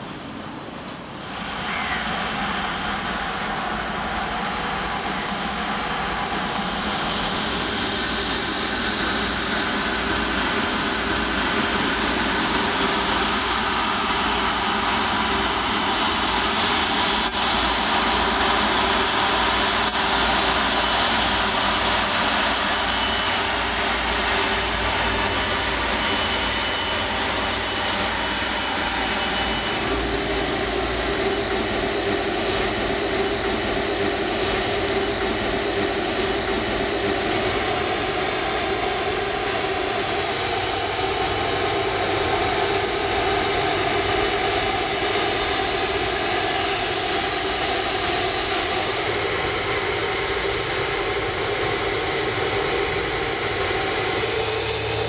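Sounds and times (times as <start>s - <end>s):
faint high engine whine: 0.0s - 55.0s
jet engines running: 0.0s - 55.0s.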